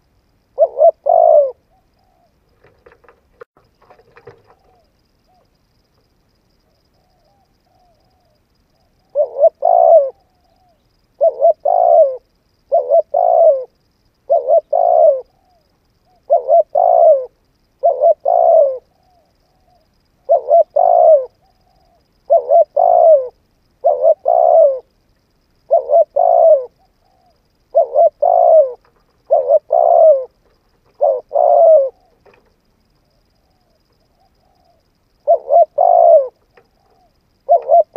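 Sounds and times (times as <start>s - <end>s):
dove cooing: 0.6s - 5.5s, 6.8s - 25.0s, 25.6s - 37.9s.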